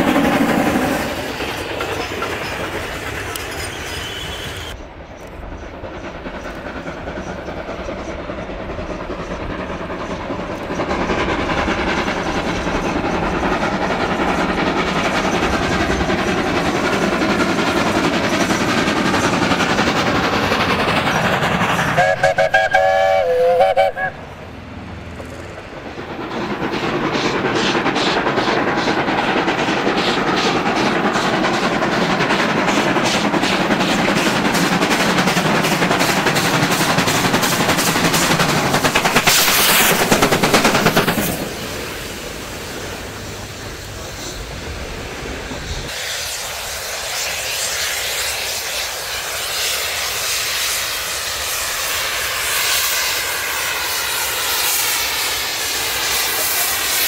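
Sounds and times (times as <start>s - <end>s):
rush of exhaust and steam: 0.0s - 57.0s
steam locomotive exhaust chuffs: 0.0s - 57.0s.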